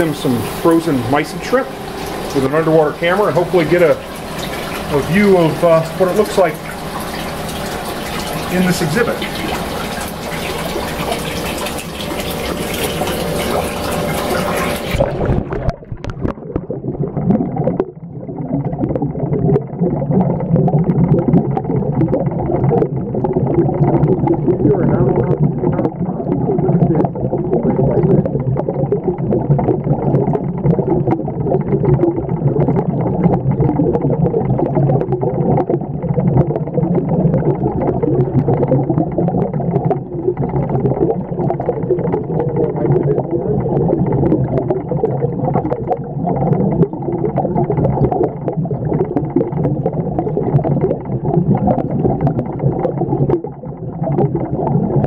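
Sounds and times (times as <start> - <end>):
underwater aquarium rumbling: 0.0 - 55.0.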